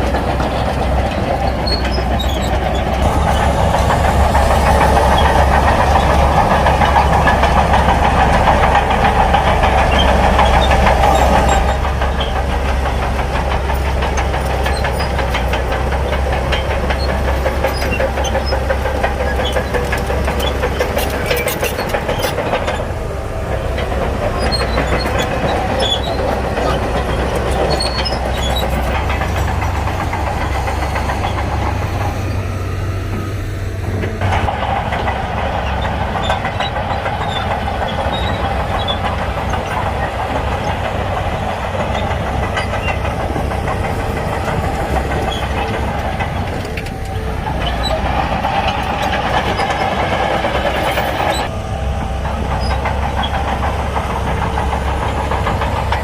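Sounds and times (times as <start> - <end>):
bulldozer diesel engine rumbling: 0.0 - 56.0
metal clanks: 0.0 - 56.0.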